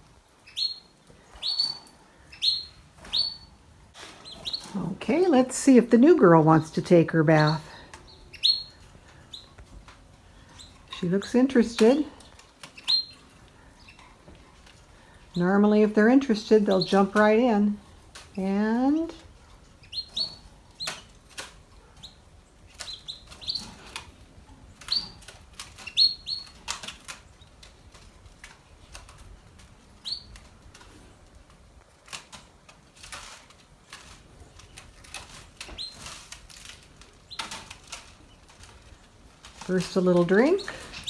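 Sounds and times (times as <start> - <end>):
canaries chirping: 0.3 - 5.3, 6.6 - 28.0, 29.8 - 31.1, 34.0 - 41.0.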